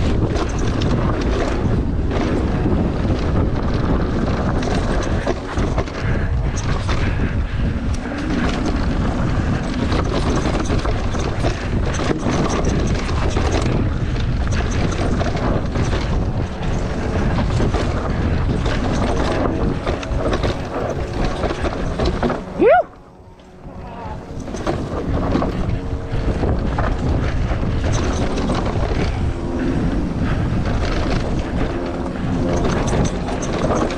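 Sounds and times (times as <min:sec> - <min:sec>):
bike rattling and knocking: 0:00.0 - 0:33.9
mountain bike rumble on dirt: 0:00.0 - 0:33.9
wind buffeting microphone: 0:00.0 - 0:33.9.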